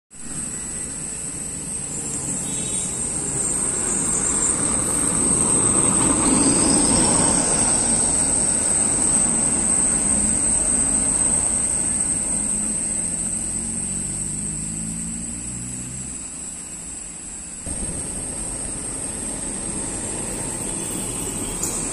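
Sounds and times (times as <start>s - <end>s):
truck diesel engine passing: 0.4s - 21.9s.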